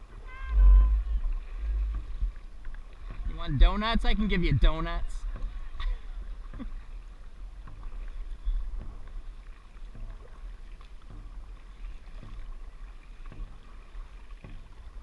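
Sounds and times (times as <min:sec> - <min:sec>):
paddle strokes in rhythm: 0:00.0 - 0:15.0
wind rumble on microphone: 0:00.0 - 0:15.0.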